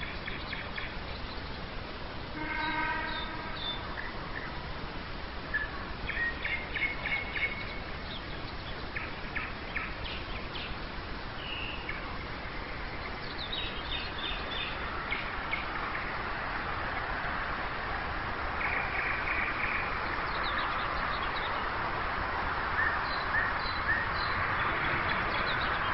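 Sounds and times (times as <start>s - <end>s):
nightingale singing: 0.0s - 1.7s, 2.3s - 4.6s, 5.5s - 16.3s, 18.5s - 25.9s.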